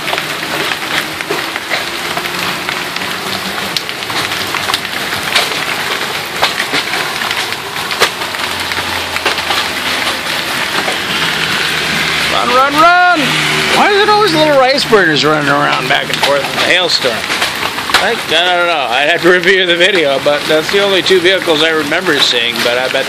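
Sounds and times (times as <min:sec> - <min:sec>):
hail pelting down: 0:00.0 - 0:23.0
hailstones cracking on hard surfaces: 0:00.0 - 0:23.0.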